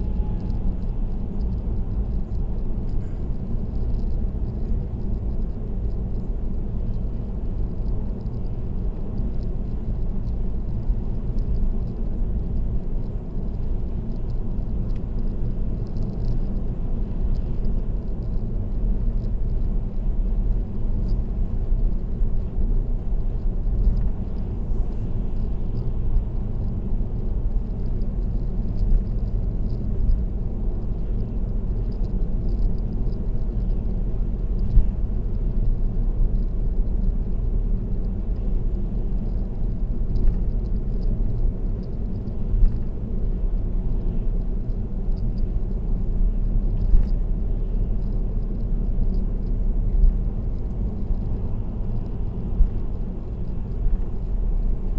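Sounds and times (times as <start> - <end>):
road and tyre rumble: 0.0 - 54.9.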